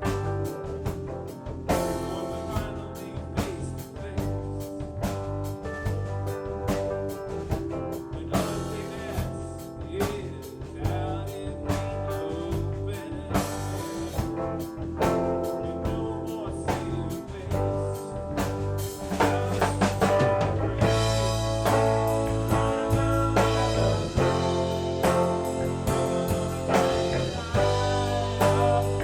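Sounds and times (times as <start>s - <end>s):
drum kit: 0.0s - 29.0s
electric guitar playing: 0.0s - 29.0s.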